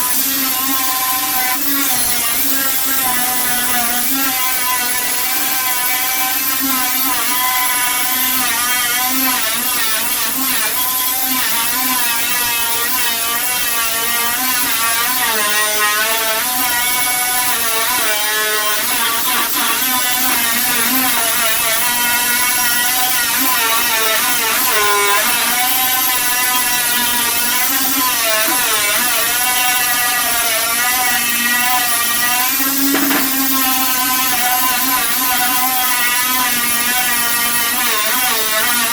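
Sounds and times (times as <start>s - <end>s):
power tool whining: 0.0s - 38.9s.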